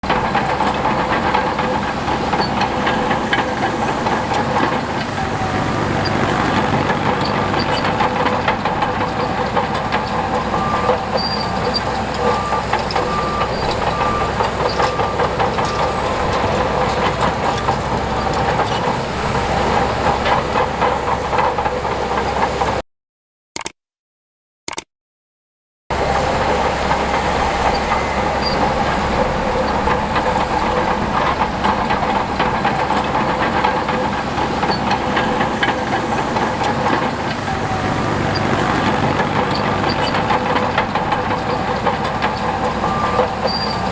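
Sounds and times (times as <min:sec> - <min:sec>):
metal rattle and clank: 0:00.0 - 0:22.3, 0:25.9 - 0:43.9
diesel engine running: 0:00.0 - 0:22.8, 0:25.9 - 0:43.9.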